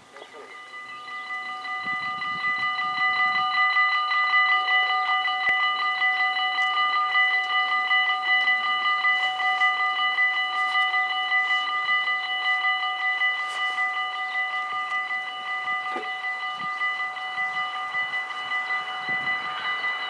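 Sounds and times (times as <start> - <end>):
level crossing bells ringing: 0.0 - 20.0.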